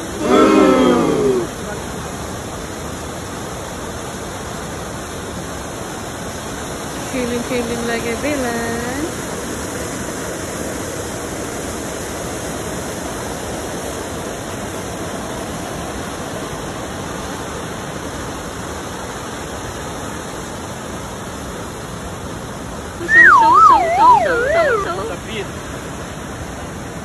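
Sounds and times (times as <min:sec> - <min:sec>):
rushing churning water: 0:00.0 - 0:27.0.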